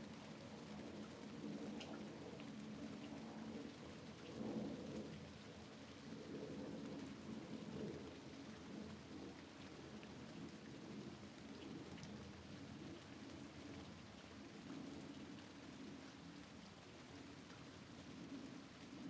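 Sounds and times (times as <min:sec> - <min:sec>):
rain on a window: 0:00.0 - 0:19.0.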